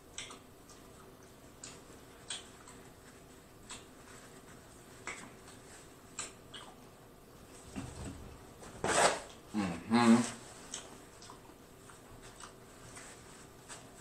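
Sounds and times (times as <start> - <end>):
man chewing with mouth clicks: 0.0 - 7.7, 10.4 - 14.0.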